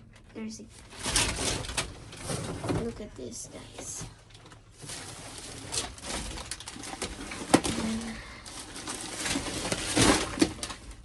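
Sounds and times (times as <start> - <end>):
trash rustling: 0.0 - 11.0.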